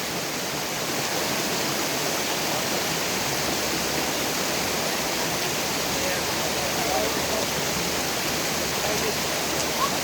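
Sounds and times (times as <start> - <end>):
rushing water of waterfall: 0.0 - 10.0.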